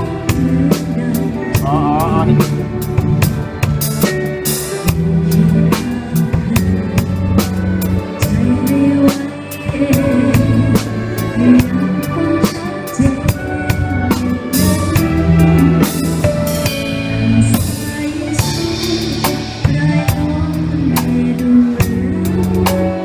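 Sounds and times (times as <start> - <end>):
orchestra playing: 0.0 - 23.0
steady drum beat: 0.0 - 23.0.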